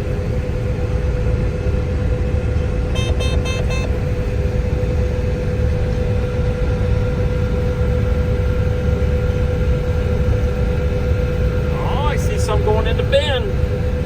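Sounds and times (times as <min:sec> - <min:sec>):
combine harvester rumbling: 0:00.0 - 0:14.0.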